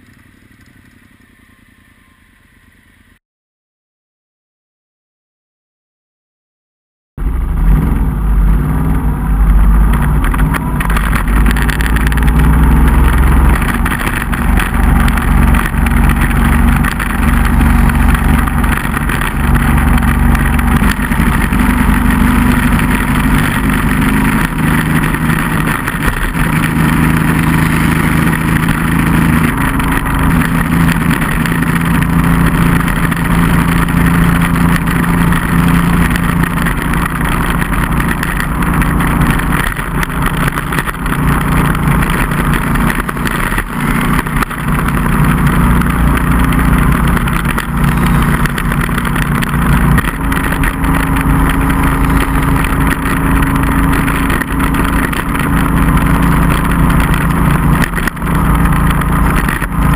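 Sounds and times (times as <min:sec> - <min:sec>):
motorcycle engine: 0:00.0 - 0:03.2, 0:07.2 - 0:59.9.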